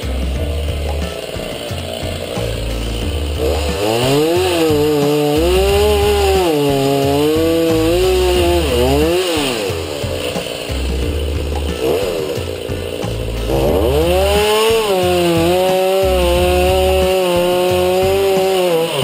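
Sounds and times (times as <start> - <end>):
background music with low beat: 0.0 - 19.0
chainsaw revving: 0.0 - 19.0.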